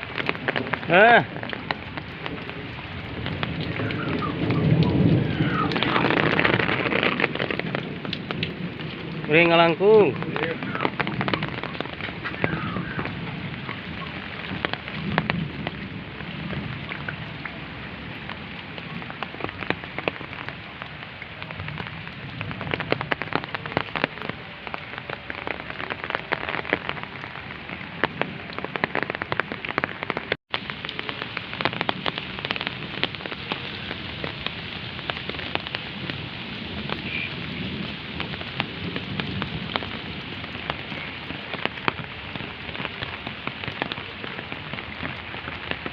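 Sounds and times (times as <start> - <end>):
heavy rain pattering: 0.0 - 45.9.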